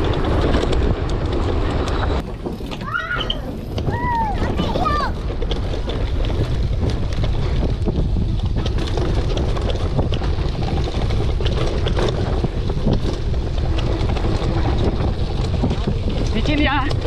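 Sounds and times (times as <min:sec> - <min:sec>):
bike clicks and knocks: 0:00.0 - 0:17.0
mountain bike rattling on dirt trail: 0:00.0 - 0:17.0
wind buffeting microphone: 0:00.0 - 0:17.0.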